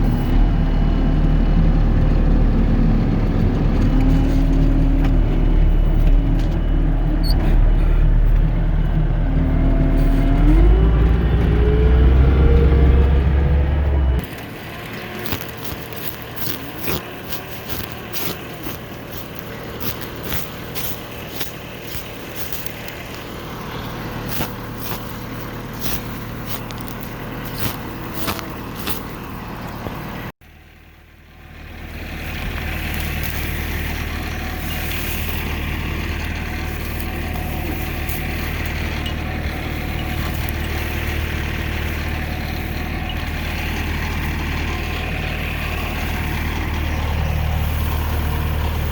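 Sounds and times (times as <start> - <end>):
farm machine engine drone: 0.0 - 48.9.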